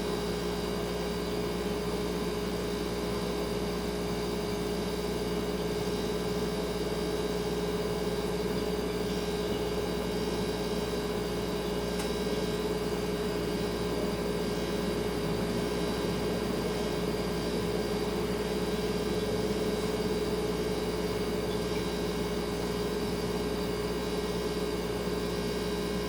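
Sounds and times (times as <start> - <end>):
refrigerator humming: 0.0 - 26.0.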